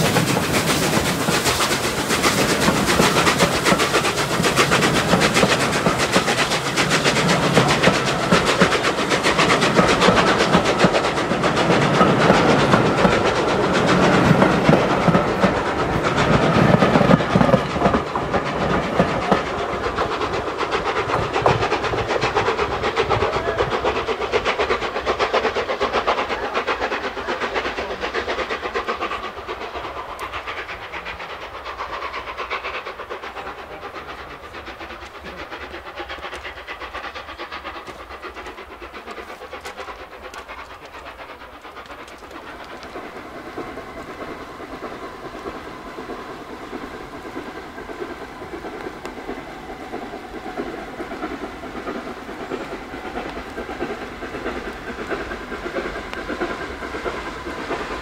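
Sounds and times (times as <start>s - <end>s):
steam locomotive exhaust beats: 0.0s - 58.0s
train wheels and coaches clattering: 0.0s - 58.0s.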